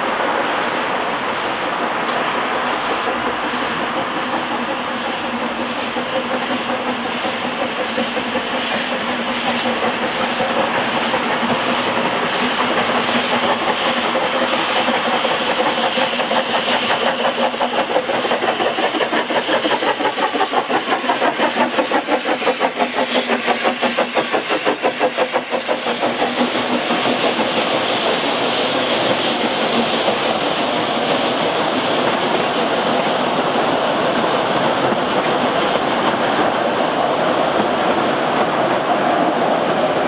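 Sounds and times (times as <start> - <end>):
coaches running over rails: 0.0 - 40.0
steam locomotive exhaust beating: 0.0 - 40.0.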